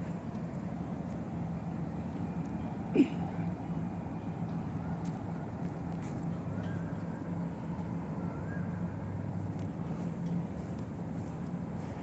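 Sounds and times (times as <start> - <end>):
urban background hum: 0.0 - 12.0.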